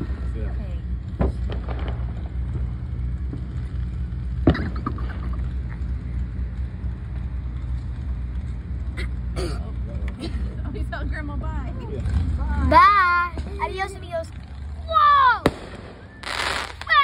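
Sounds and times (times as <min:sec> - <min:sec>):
truck engine idling: 0:00.0 - 0:16.8.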